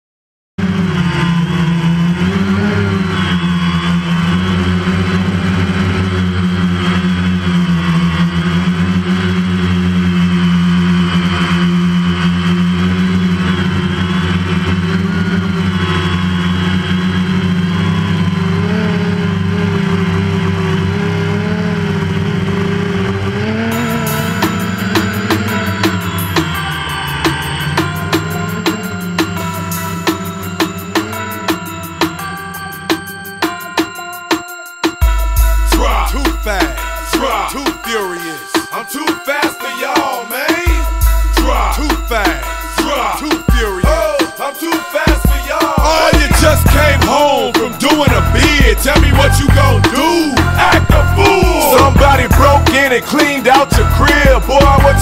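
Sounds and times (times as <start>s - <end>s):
drone propellers buzzing: 0.6s - 55.0s.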